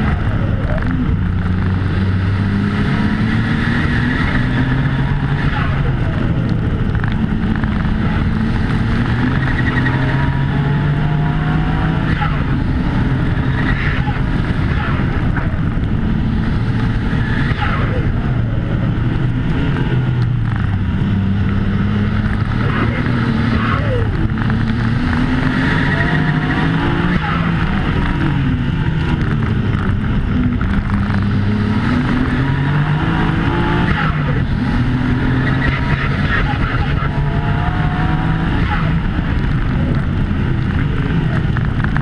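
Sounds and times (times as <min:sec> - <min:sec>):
car engine revving: 0:00.0 - 0:42.0
road noise: 0:00.0 - 0:42.0.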